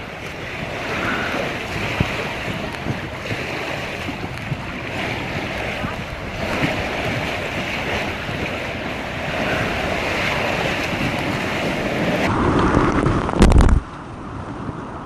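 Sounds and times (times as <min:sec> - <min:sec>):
rushing water: 0:00.0 - 0:15.0
wind noise on microphone: 0:00.0 - 0:15.0.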